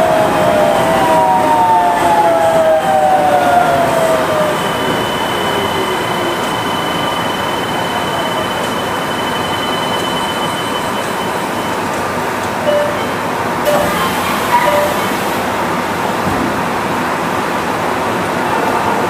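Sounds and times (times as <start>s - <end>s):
train tyres rumbling and hissing: 0.0s - 19.0s.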